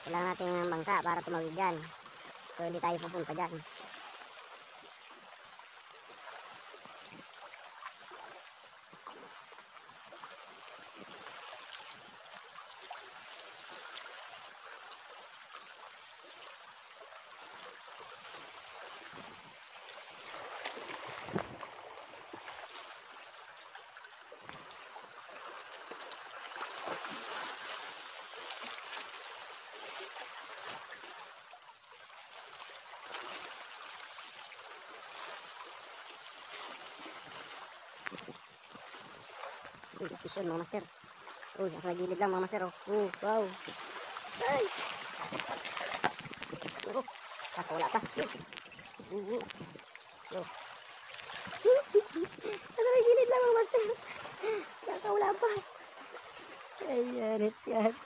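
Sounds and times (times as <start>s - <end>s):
small waves lapping over rocks: 0.0s - 58.0s.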